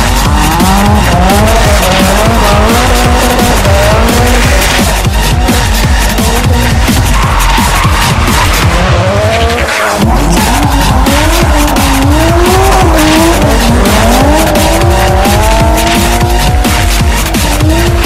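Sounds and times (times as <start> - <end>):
car engine running: 0.0 - 18.0
music with a heavy beat: 0.0 - 18.0.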